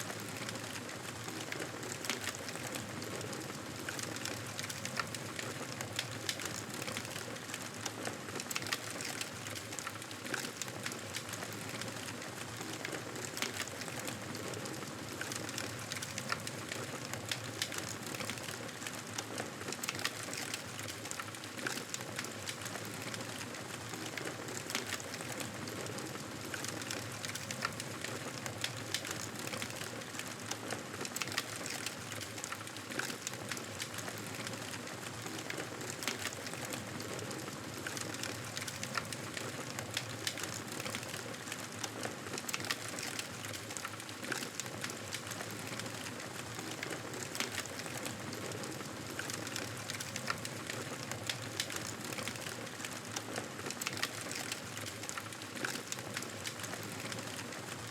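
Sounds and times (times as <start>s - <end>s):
wood fire crackling: 0.1s - 57.9s.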